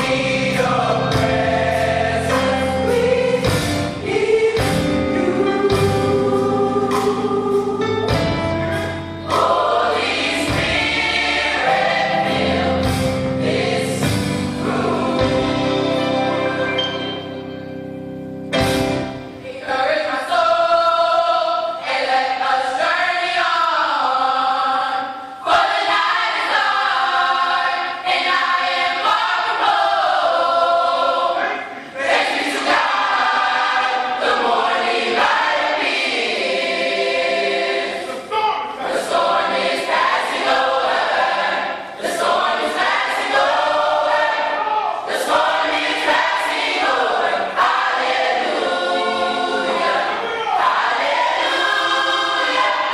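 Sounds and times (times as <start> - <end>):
gospel choir singing: 0.0 - 52.9.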